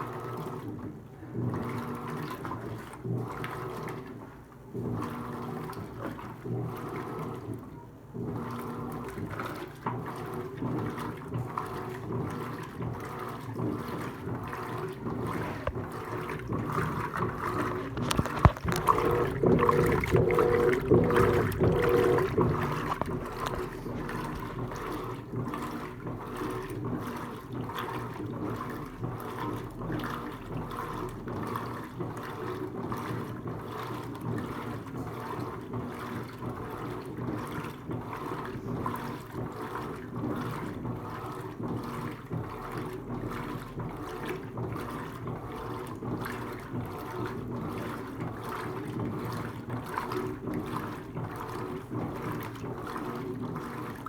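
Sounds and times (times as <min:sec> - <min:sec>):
washing machine churning water: 0:00.0 - 0:54.0.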